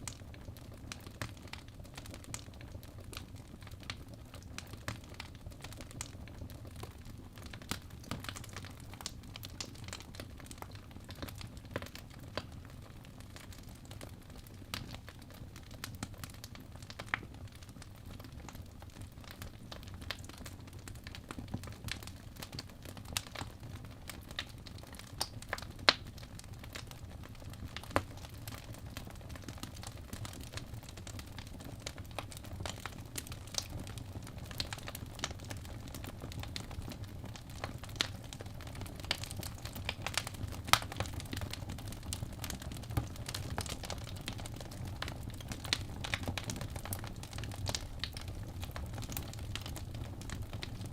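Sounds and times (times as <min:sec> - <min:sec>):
fire crackling and popping: 0:00.0 - 0:50.9
wood fire rumbling: 0:00.1 - 0:50.9.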